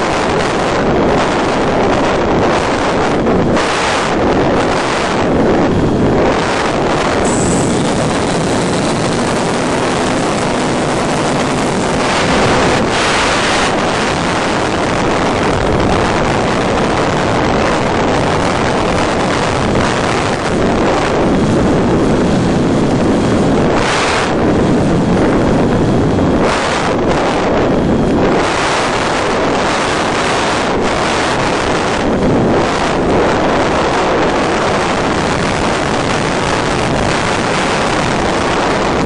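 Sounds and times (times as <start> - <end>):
airflow buffeting microphone: 0.0 - 39.0.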